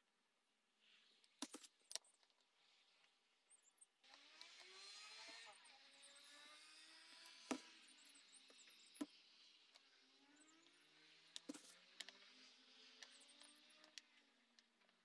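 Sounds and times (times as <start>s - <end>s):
faint mechanical hum: 0.0s - 15.0s.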